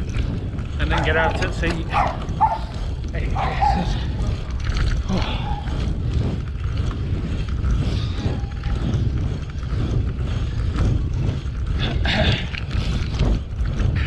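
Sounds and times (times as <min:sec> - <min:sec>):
bike tyres rumbling on tarmac: 0:00.0 - 0:14.0
wind buffeting microphone: 0:00.0 - 0:14.0.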